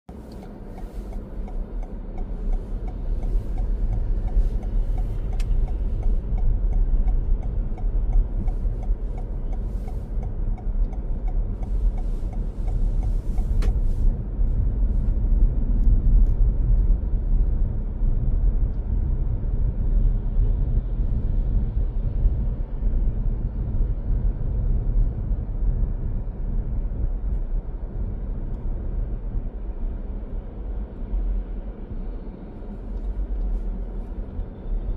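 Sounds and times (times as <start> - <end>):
car engine and tyre road noise: 0.0 - 34.9.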